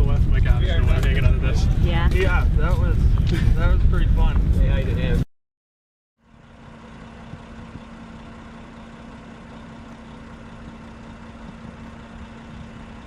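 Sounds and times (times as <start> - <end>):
engine running steadily: 0.0 - 5.2, 6.2 - 13.0.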